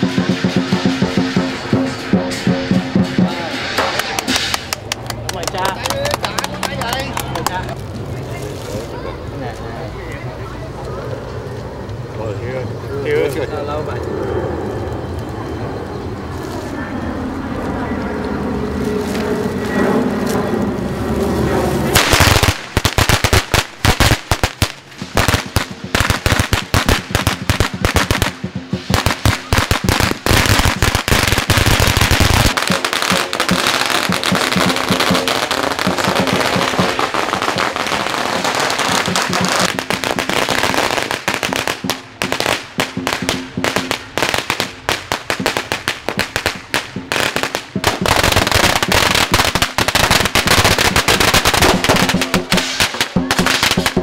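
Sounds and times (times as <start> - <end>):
firecracker string crackling: 0.0 - 12.4, 17.6 - 54.0.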